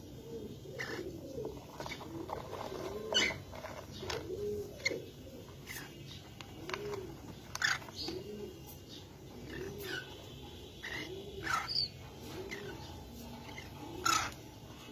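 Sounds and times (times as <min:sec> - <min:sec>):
pigeon cooing: 0:00.0 - 0:14.9.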